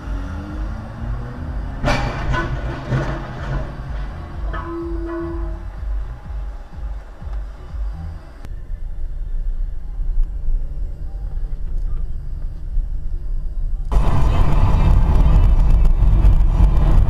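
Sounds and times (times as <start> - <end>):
low vehicle rumble: 0.0 - 17.0
road and engine noise: 0.0 - 17.0.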